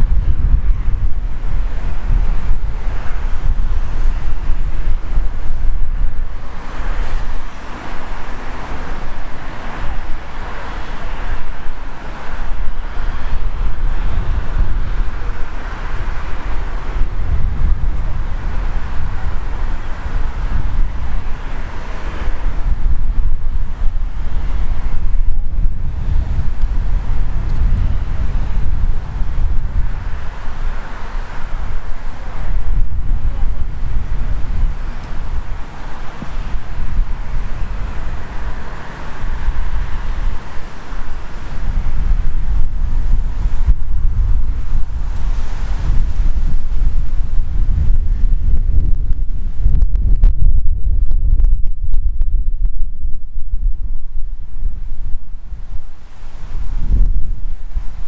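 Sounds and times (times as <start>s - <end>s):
gusty wind buffeting microphone: 0.0s - 58.0s.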